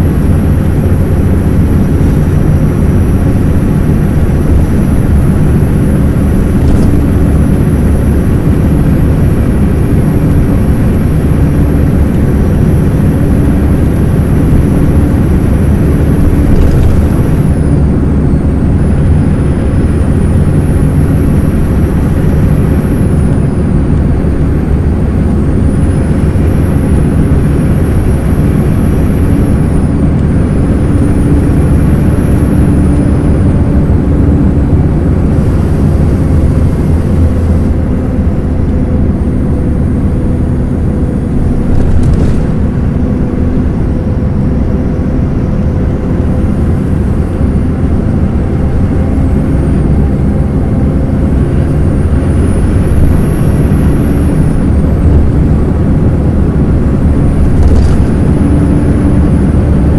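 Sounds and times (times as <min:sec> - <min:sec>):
diesel bus engine drone: 0:00.0 - 0:59.9
road rumble: 0:00.0 - 0:59.9.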